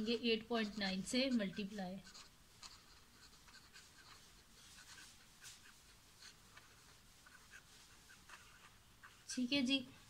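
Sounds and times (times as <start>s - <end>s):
pen scratching on paper: 0.0s - 9.6s.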